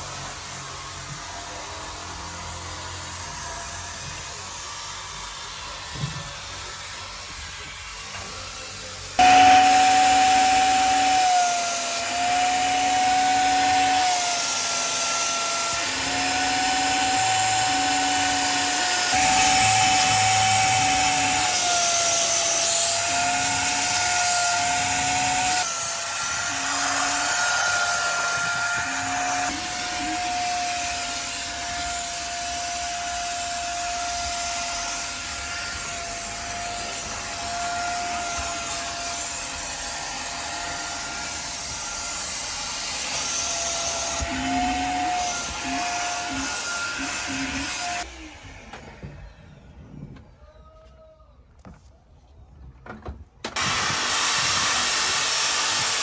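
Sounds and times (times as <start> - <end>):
vacuum cleaner whine: 0.0 - 50.4, 53.6 - 56.0.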